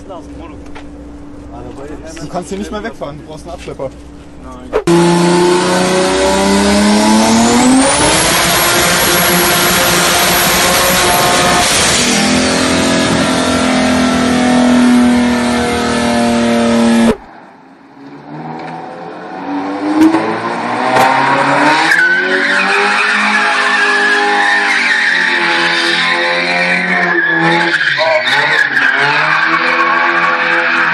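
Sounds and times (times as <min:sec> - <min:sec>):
car engine revving up: 0:04.7 - 0:17.3, 0:18.1 - 0:30.9
car engine at high revs: 0:04.7 - 0:17.4, 0:18.0 - 0:30.9.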